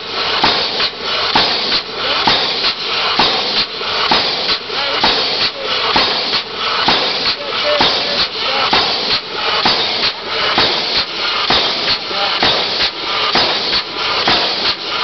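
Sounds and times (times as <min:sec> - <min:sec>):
steady steam hiss: 0:00.0 - 0:15.0
steam exhaust puffs: 0:00.0 - 0:15.0
steam hammer striking: 0:00.0 - 0:15.0.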